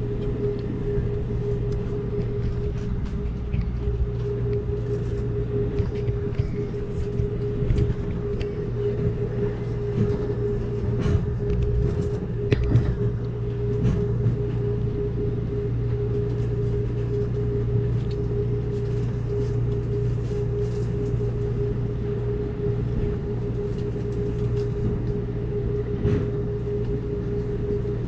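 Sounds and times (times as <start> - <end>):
low hum: 0.0 - 28.0
train drone on bridge: 0.0 - 28.0.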